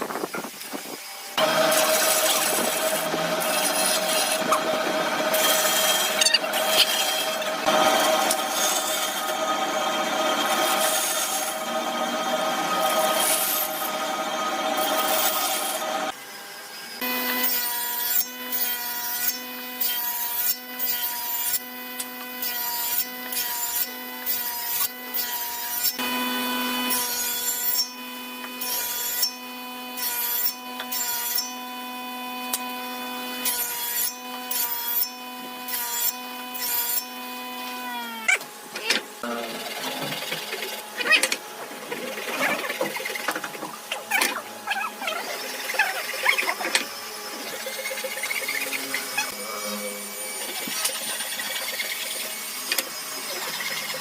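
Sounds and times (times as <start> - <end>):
tool cutting wood: 0.0 - 54.0.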